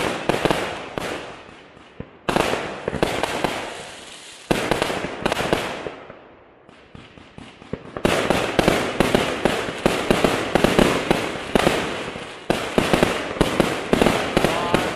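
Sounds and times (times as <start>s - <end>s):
firework bangs and crackles: 0.0s - 14.9s
fireworks bursting: 0.0s - 14.9s.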